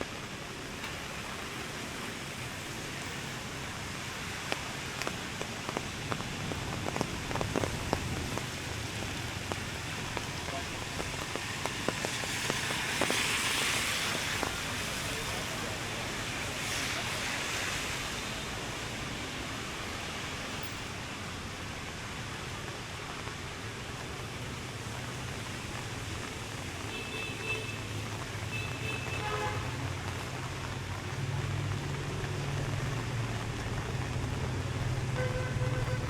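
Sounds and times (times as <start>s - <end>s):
rain hissing on a street: 0.0s - 36.0s.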